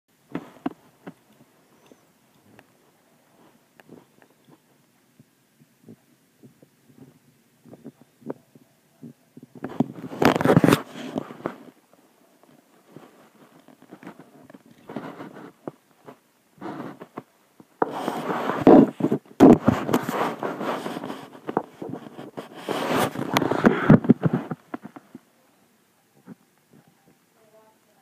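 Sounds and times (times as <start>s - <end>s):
cloth rubbing on microphone: 0.3s - 4.8s, 5.6s - 25.3s.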